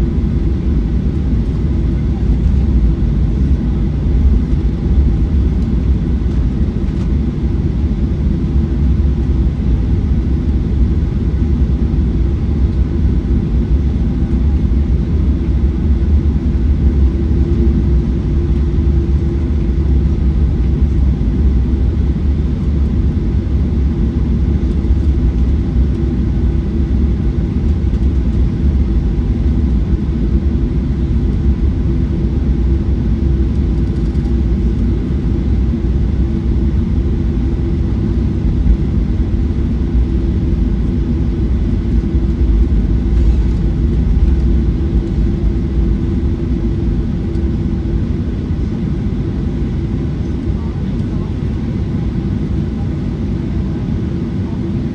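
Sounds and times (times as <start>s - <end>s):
airplane cabin drone: 0.0s - 54.9s.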